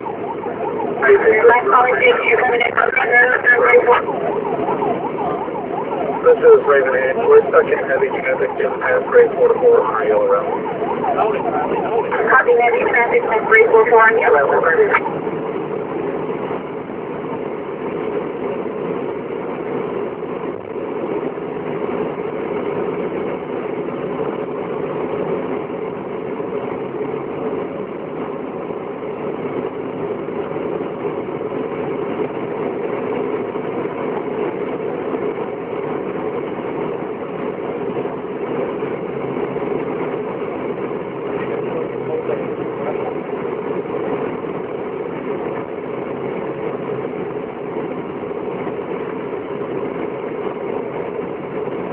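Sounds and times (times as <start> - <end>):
vehicle engine and road noise: 0.0 - 51.9.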